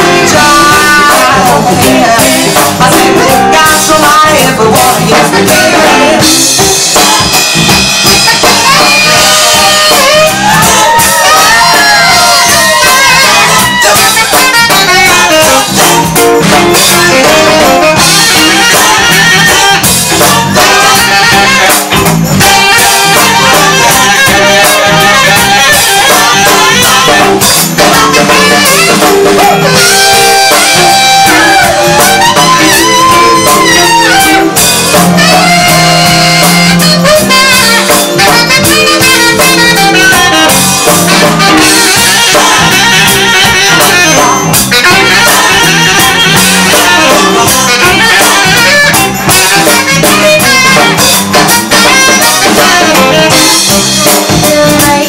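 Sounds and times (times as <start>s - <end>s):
bass: 0.0s - 55.0s
drum kit: 0.0s - 55.0s
electric guitar: 0.0s - 55.0s
saxophone: 0.0s - 55.0s.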